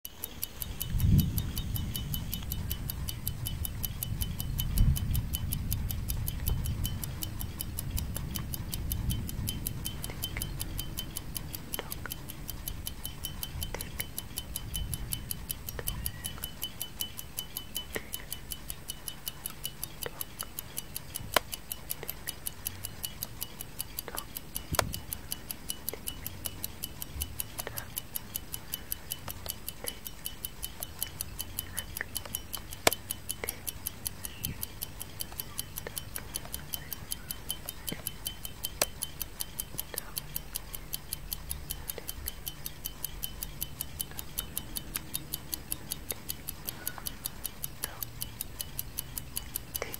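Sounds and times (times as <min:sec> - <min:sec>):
clock ticking: 0:00.0 - 0:49.9.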